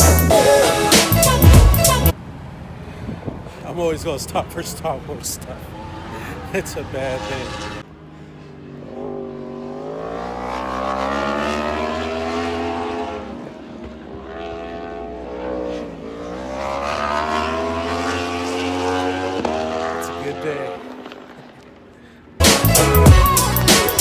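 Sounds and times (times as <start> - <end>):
racing motorcycle engines revving: 4.3 - 24.0.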